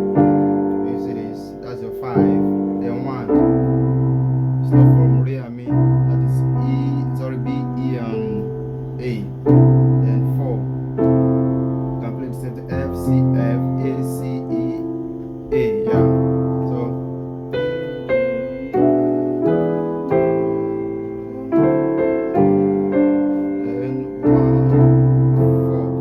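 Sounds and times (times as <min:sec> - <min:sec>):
piano chords: 0:00.0 - 0:26.0.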